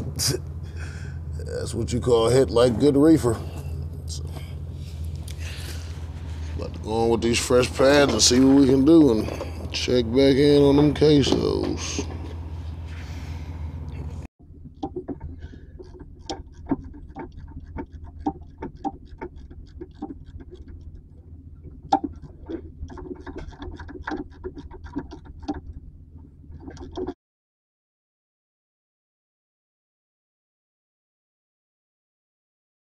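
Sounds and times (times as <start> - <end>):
low steady hum: 0.0 - 27.2.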